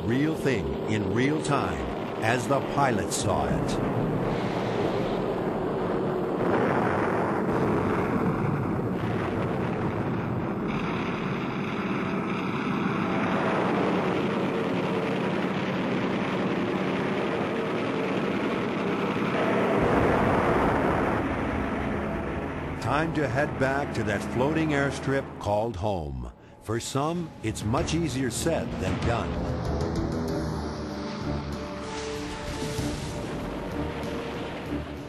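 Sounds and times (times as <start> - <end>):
propeller aircraft engine drone: 0.0 - 35.0.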